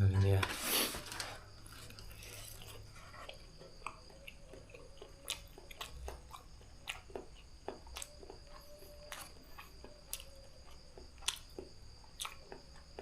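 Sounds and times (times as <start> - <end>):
person chewing: 1.6 - 13.0.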